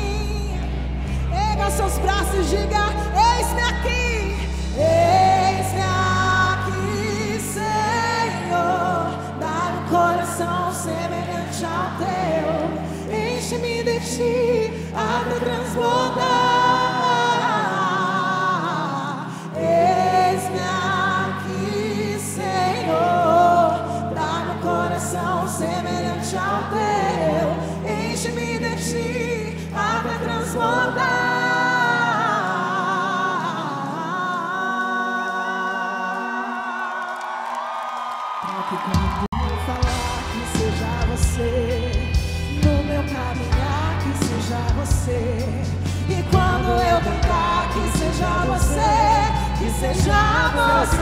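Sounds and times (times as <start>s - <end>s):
band singing slow worship song: 0.0s - 51.0s.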